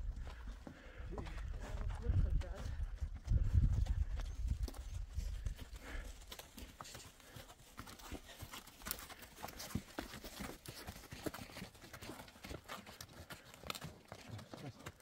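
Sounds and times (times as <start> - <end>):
horse hooves clopping on dirt: 0.0 - 15.0.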